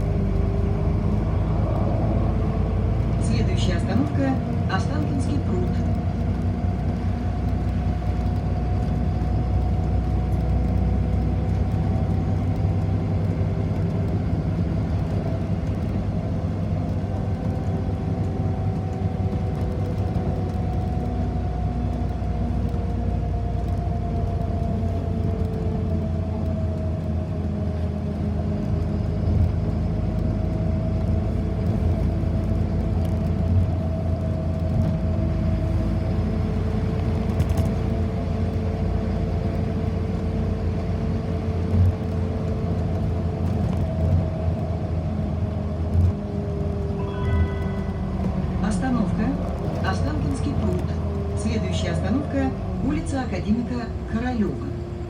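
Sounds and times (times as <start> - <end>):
bus rumbling with faint whine: 0.0 - 55.0.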